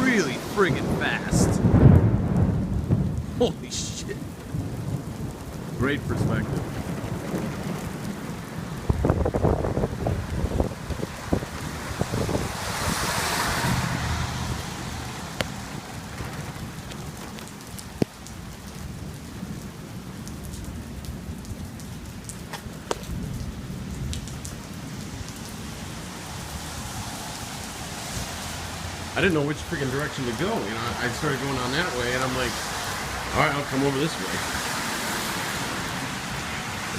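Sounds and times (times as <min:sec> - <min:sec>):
heavy rain hiss: 0:00.0 - 0:20.2, 0:22.4 - 0:36.9
gusting wind: 0:00.0 - 0:36.9.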